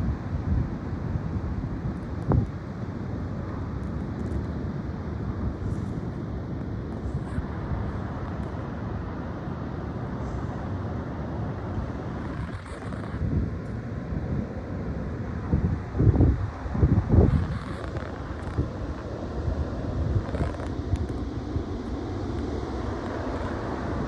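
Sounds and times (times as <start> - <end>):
high wind blowing: 0.0 - 24.0
wind buffeting microphone: 0.0 - 24.0.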